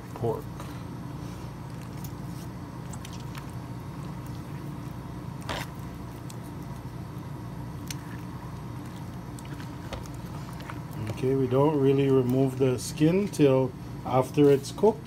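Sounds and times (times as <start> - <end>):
kitchen equipment humming: 0.0 - 15.0.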